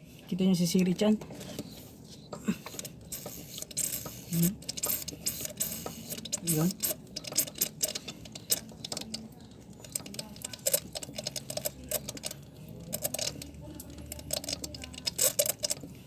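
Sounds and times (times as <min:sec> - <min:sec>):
hand primer pump clicking: 0:02.7 - 0:15.9.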